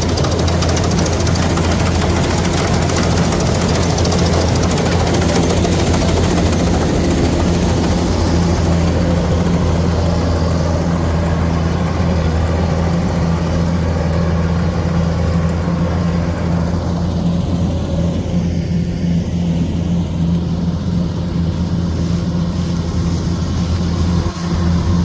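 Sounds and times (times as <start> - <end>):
diesel engine droning: 0.0 - 25.0
machinery noise: 0.0 - 25.0.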